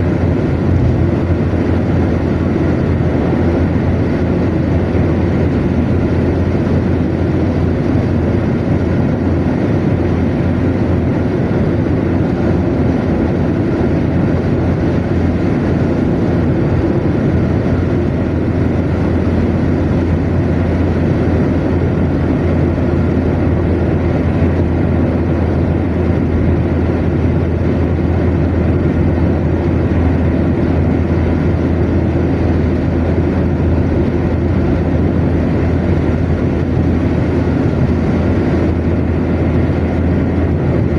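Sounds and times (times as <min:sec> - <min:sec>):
car engine drone: 0:00.0 - 0:40.9
tyres rumbling on road: 0:00.0 - 0:40.9.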